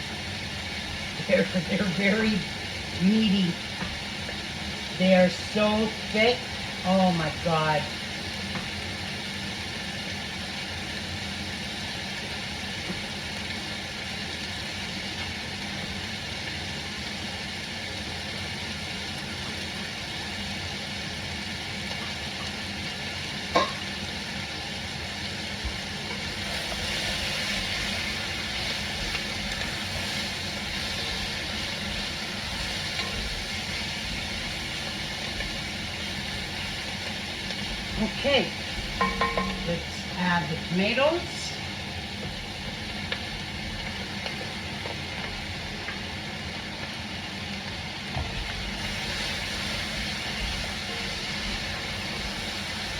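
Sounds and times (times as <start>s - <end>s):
vegetables sizzling in oil: 0.0s - 52.9s.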